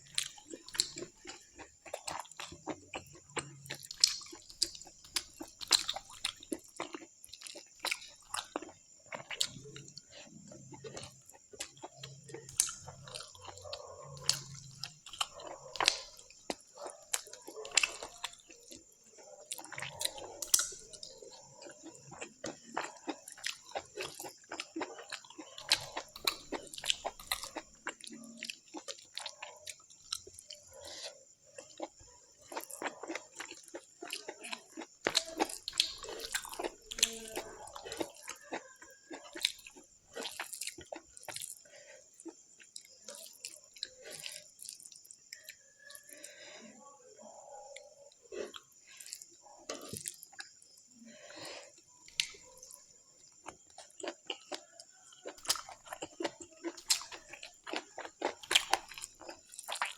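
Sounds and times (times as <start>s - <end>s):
chewing and wet mouth sounds: 0.0s - 59.9s.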